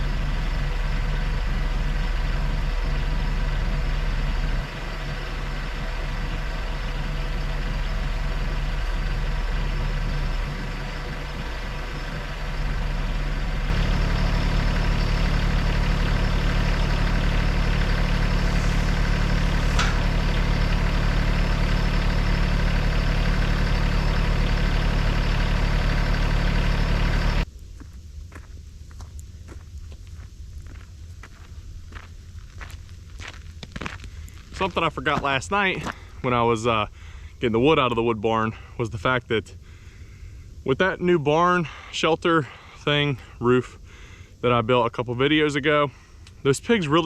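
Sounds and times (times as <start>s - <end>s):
vehicle engine running: 0.0s - 27.5s, 28.3s - 38.8s.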